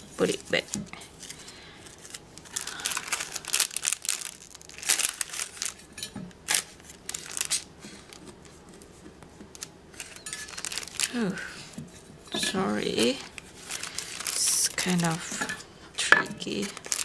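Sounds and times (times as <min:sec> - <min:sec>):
plastic packaging rustling: 0:00.0 - 0:17.0.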